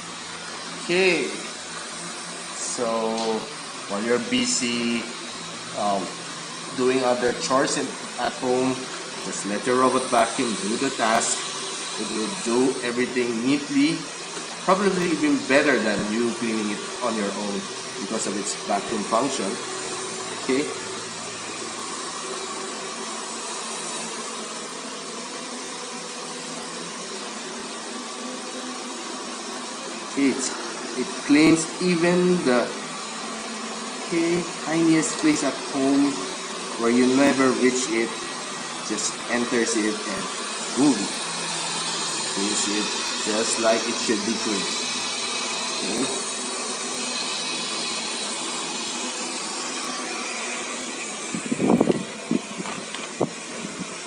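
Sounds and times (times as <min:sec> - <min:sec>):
robot vacuum hiss and hum: 0:00.0 - 0:54.0.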